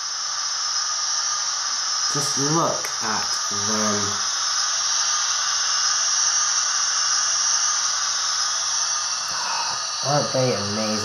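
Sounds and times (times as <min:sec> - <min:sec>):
steam hiss: 0:00.0 - 0:11.0.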